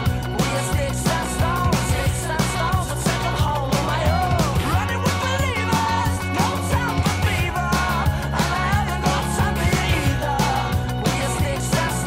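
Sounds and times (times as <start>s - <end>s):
rock pop music: 0.0s - 12.0s.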